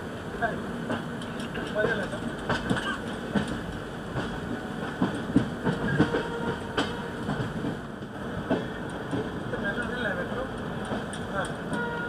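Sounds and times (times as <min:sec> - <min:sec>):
train wheels rumbling on track: 0:00.0 - 0:12.0
train clacks and knocks: 0:00.3 - 0:12.0.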